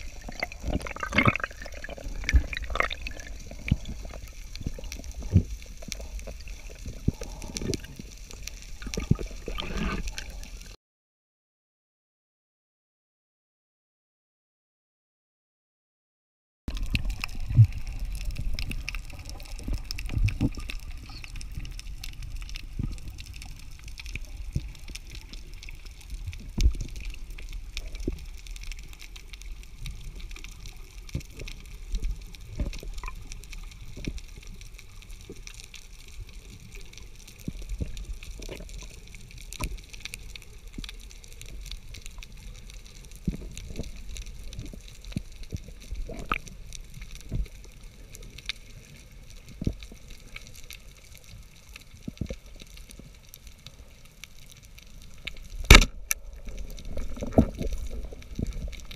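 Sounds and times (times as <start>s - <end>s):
low rumble of water movement: 0.0s - 10.8s, 16.7s - 58.9s
underwater clicks and crackles: 0.0s - 10.8s, 16.7s - 58.9s.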